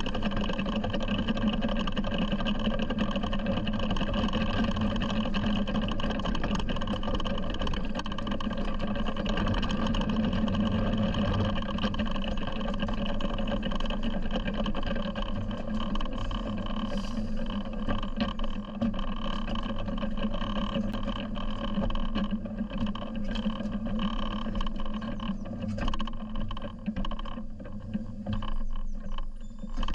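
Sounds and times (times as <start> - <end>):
miniature train wheels rumbling: 0.0 - 29.9.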